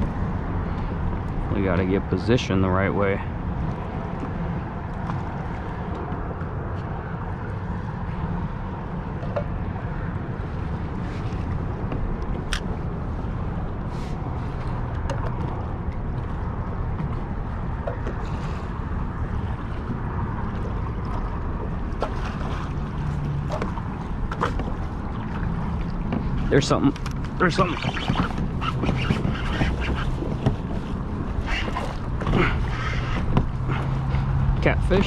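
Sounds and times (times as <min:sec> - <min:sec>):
water lapping around kayak: 0:00.0 - 0:35.0
wind buffeting microphone: 0:00.0 - 0:35.0.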